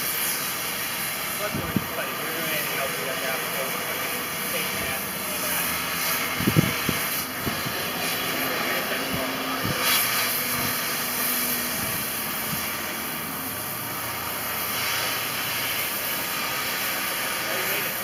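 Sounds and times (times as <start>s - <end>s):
cutting torch hissing: 0.0s - 18.0s.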